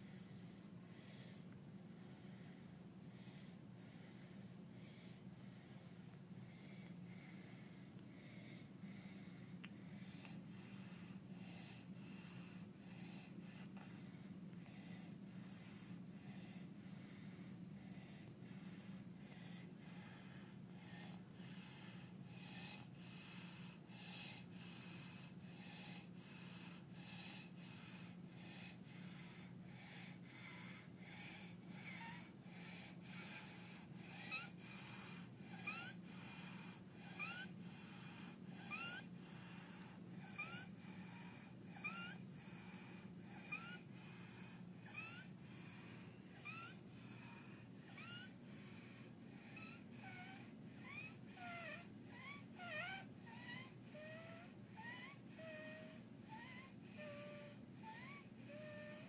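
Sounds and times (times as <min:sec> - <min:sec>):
infant harsh noisy breathing: 0:00.0 - 0:59.0.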